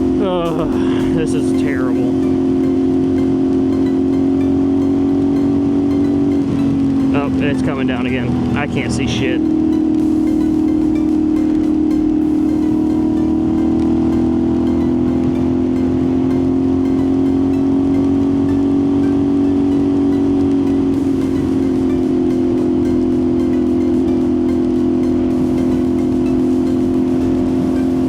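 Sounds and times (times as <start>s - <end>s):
motorcycle engine droning: 0.0s - 28.0s
wind and road noise: 0.0s - 28.0s.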